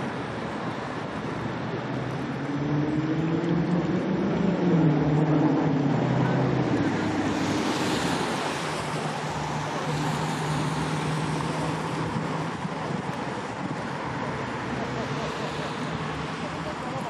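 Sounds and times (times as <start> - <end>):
wind noise on microphone: 0.0 - 14.7.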